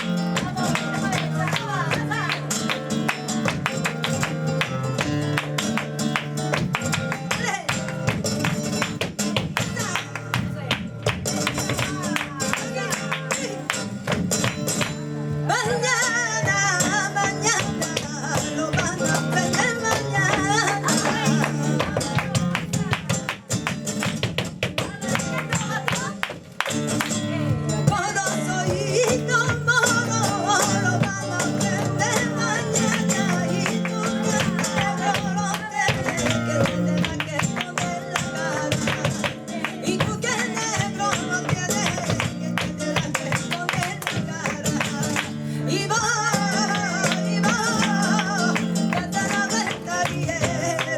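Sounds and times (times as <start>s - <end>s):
flamenco guitar: 0.0s - 50.9s.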